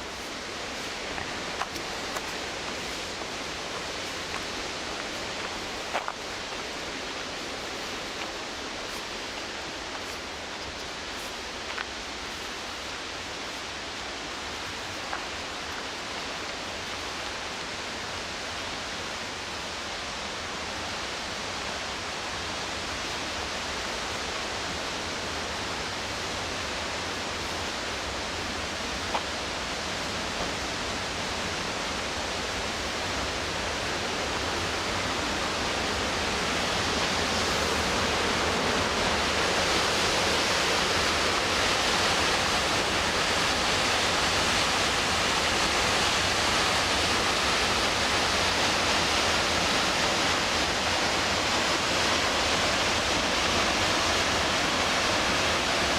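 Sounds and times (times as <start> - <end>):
rushing whitewater: 0.0 - 55.9.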